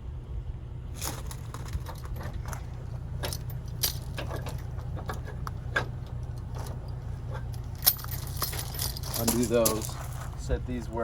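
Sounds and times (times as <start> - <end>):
pickup truck idling: 0.0 - 11.0
metallic hitch clicks and clinks: 1.0 - 10.2.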